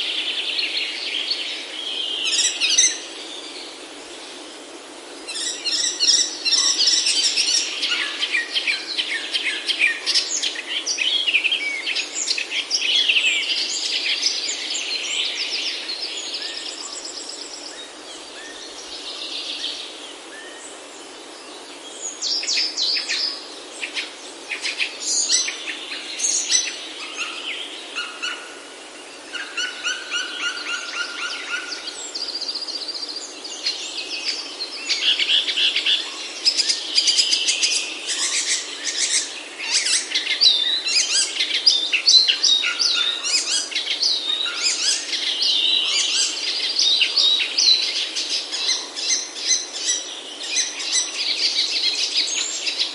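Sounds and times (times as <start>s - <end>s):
birds chirping and trilling: 0.0s - 52.9s.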